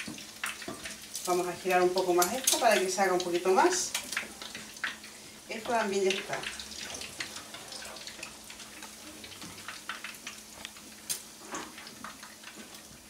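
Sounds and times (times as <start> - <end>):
oil crackling and popping in a pan: 0.0 - 13.0.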